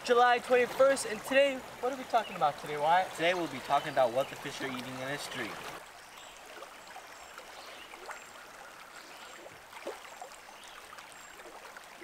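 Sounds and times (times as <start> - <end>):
stream water running: 0.0 - 12.0
water gurgling: 0.0 - 12.0.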